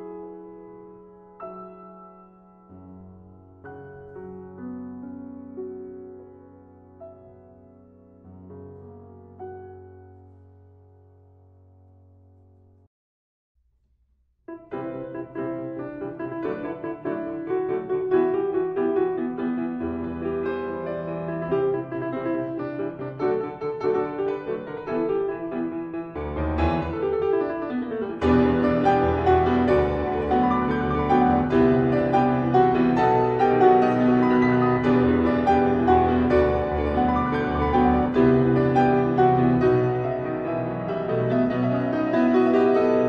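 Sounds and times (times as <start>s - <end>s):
piano music: 0.0s - 12.8s, 14.5s - 43.0s.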